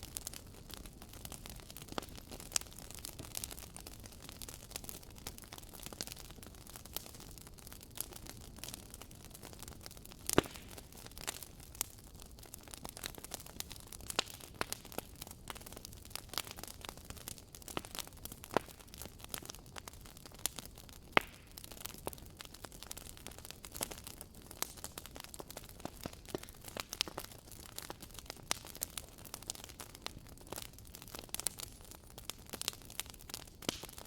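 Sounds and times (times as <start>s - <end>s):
low steady fire hiss: 0.0s - 34.0s
wood fire crackling and popping: 0.0s - 34.0s.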